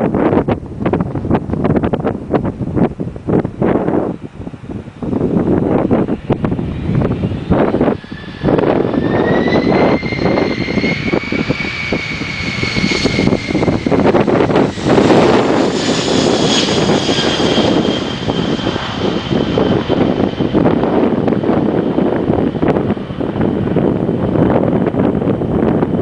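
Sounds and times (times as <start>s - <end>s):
deep rumble: 0.0s - 26.0s
wind buffeting microphone: 0.0s - 26.0s
jet engines whining: 4.7s - 26.0s.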